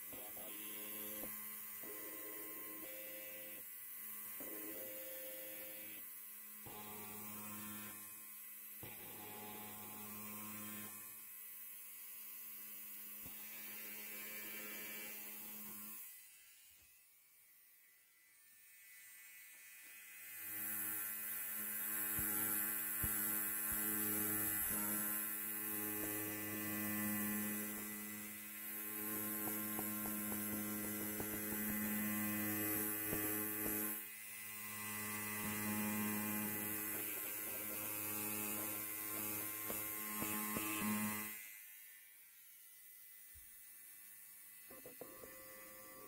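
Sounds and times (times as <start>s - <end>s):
electric hair clipper buzzing: 0.0s - 46.0s.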